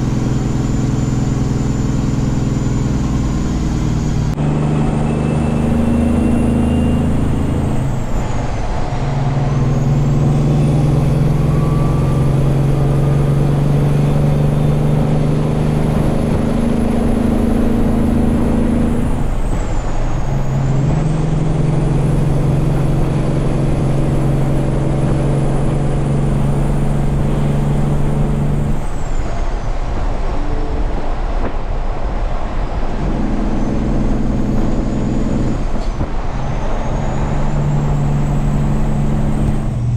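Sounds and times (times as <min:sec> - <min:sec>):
high whine: 0:00.0 - 0:39.9
truck diesel engine running: 0:00.0 - 0:39.9.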